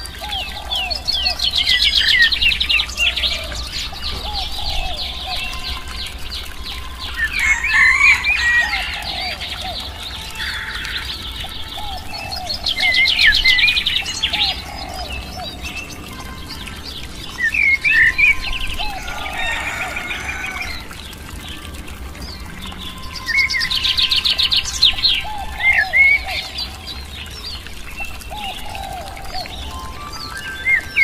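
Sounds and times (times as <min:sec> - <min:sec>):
birds singing: 0:00.0 - 0:31.0.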